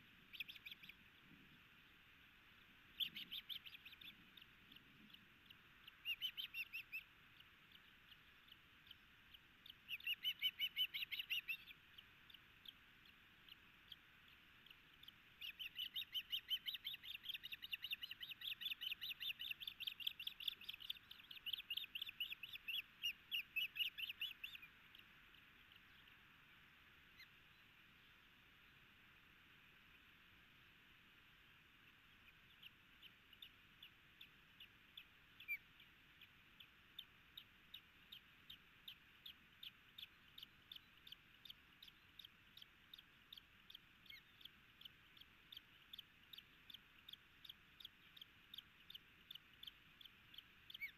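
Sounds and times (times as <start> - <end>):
osprey chirping: 0.0 - 1.1, 1.8 - 26.3, 31.8 - 50.9.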